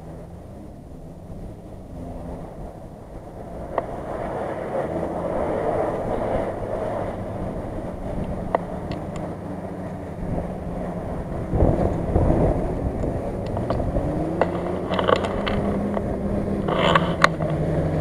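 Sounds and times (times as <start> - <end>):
distant vehicle engines running: 0.0 - 18.0
wind rumble on microphone: 0.0 - 18.0.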